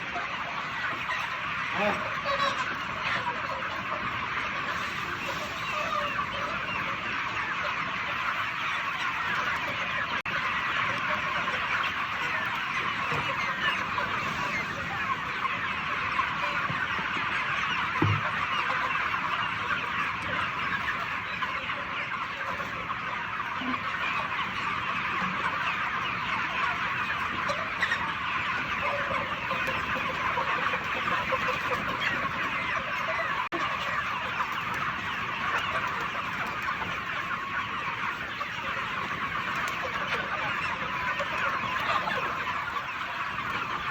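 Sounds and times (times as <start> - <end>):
chickens clucking and chirping: 0.0 - 43.9.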